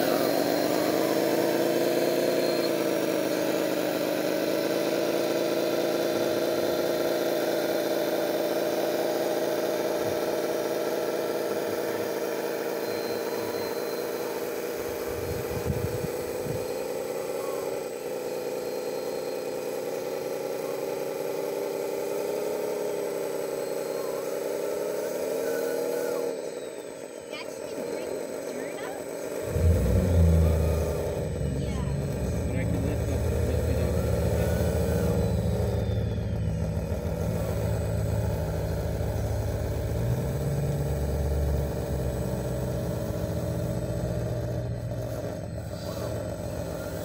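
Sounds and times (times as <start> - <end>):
model bulldozer machine hum: 0.0 - 47.0.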